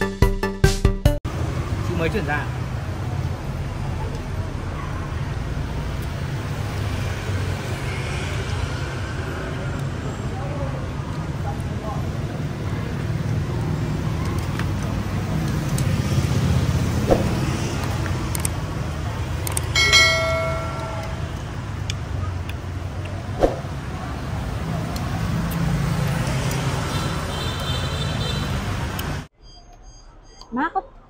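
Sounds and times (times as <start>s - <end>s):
street traffic: 1.2s - 31.0s.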